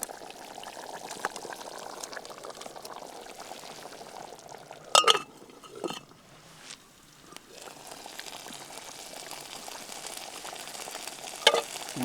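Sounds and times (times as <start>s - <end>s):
gravy bubbling in a pan: 0.0s - 12.0s.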